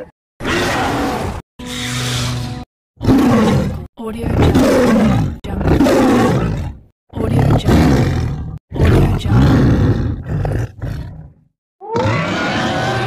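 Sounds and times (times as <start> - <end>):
dinosaur roars: 0.4 - 6.8, 7.4 - 13.0.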